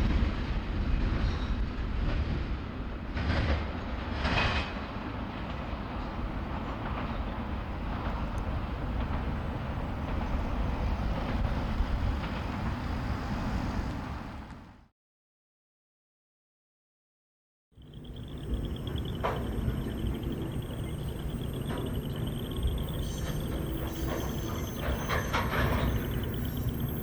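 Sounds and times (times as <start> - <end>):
freight train rumbling on rails: 0.0 - 14.9, 17.8 - 27.0.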